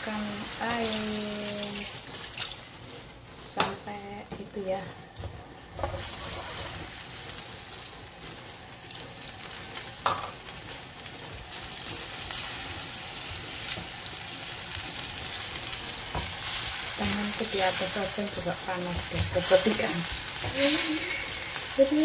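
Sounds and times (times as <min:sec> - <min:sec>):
meat sizzling in a frying pan: 0:00.0 - 0:04.7, 0:05.5 - 0:22.0.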